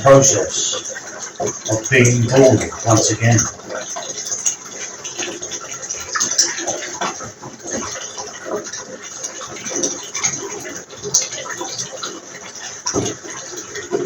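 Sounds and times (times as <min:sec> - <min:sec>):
water running into a bath: 0:00.0 - 0:14.0.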